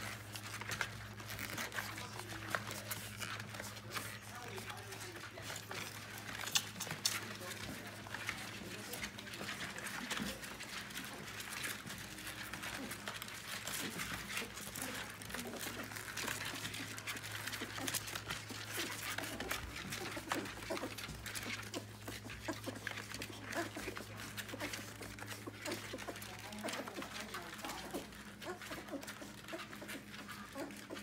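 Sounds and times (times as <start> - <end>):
puppies suckling: 0.0 - 31.0.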